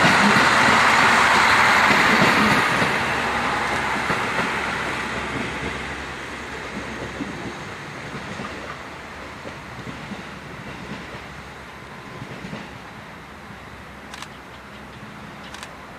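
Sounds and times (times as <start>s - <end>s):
train running: 0.0s - 15.9s.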